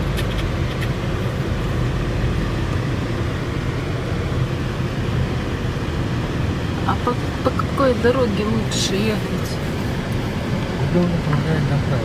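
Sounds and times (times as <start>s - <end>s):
car tyres and engine rumble: 0.0s - 12.0s.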